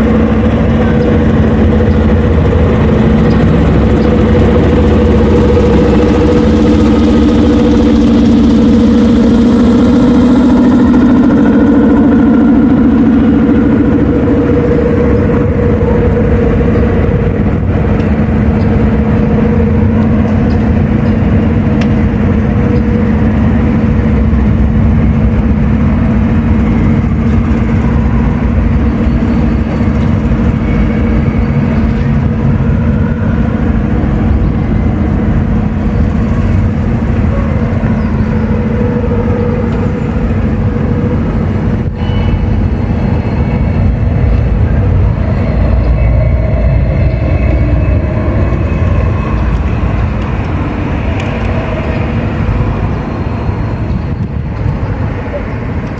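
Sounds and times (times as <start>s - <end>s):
constant low hum: 0.0s - 55.9s
train running close by: 0.0s - 55.9s.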